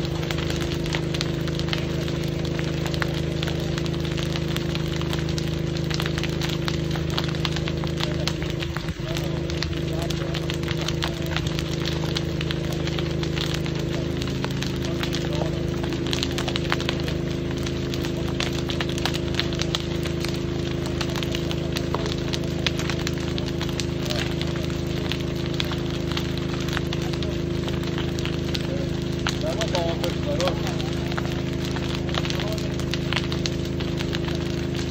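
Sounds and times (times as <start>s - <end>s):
engine humming: 0.0s - 34.9s
fire crackling and popping: 0.0s - 34.9s.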